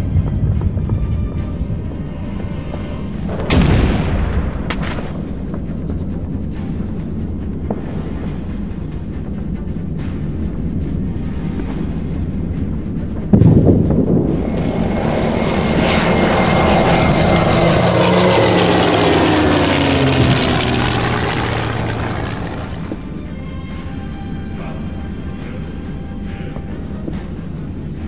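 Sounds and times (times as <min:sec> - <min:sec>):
propeller aircraft flying overhead: 0:00.0 - 0:03.6, 0:04.9 - 0:28.0
music with heavy low end: 0:00.0 - 0:28.0.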